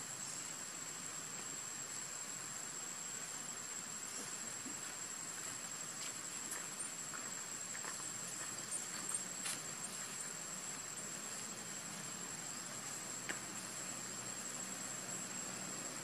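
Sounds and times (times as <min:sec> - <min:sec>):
constant high-pitched whine: 0:00.0 - 0:16.0
steady hiss: 0:00.0 - 0:16.0.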